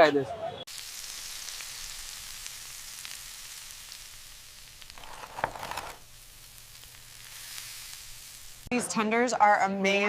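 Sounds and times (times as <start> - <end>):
food sizzling in a pan: 0.7 - 9.3.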